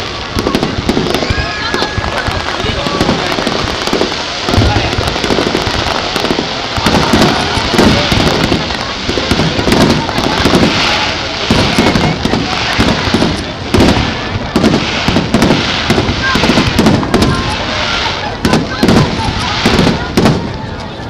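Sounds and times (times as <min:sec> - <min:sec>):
firework shells bursting: 0:00.0 - 0:20.6
firework crackle: 0:00.0 - 0:21.0.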